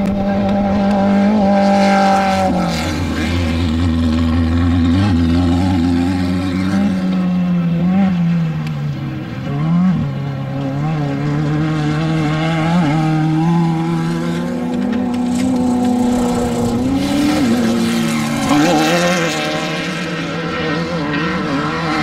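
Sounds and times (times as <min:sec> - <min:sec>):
race vehicle engine revving: 0:00.0 - 0:22.0.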